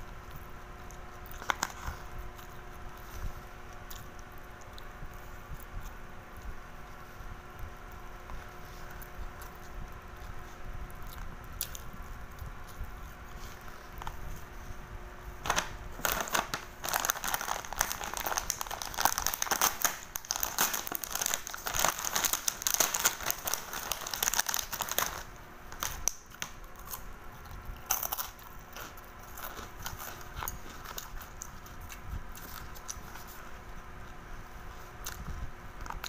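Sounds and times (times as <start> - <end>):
wrapping crinkling and rustling: 0.4 - 5.4, 6.8 - 33.9.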